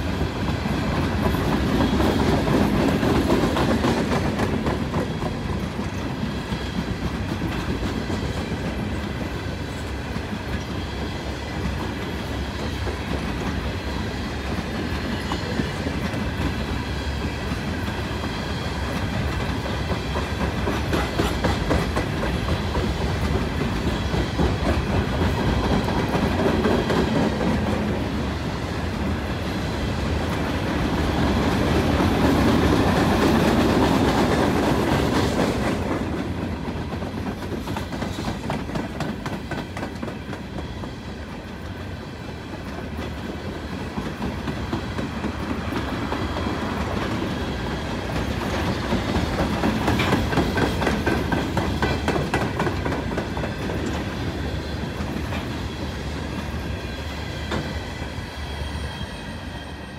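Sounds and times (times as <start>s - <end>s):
wheels clacking over rail joints: 0.0s - 58.1s
freight train rumble: 0.0s - 59.9s.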